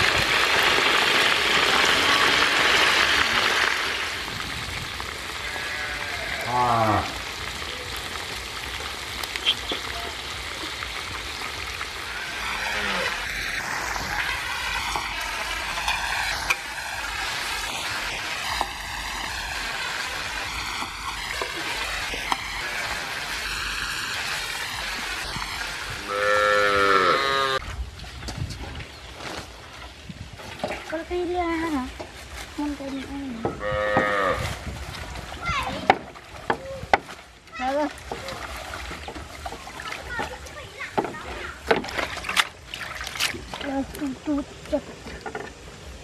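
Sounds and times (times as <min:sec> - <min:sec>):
frying sizzling hiss: 0:00.0 - 0:46.0.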